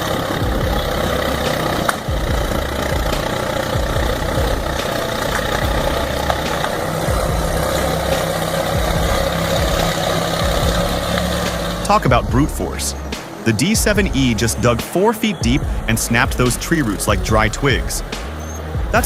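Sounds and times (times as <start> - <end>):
heavy machine engine running: 0.0 - 19.0
steady low tone: 0.0 - 19.0.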